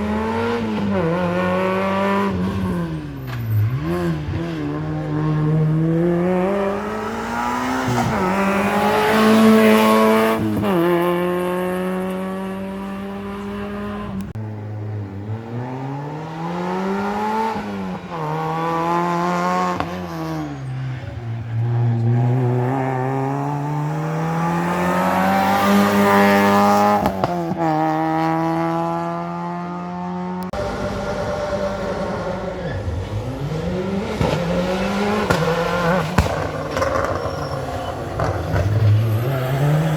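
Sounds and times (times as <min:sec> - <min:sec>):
rally car engines revving hard: 0:00.0 - 0:39.9.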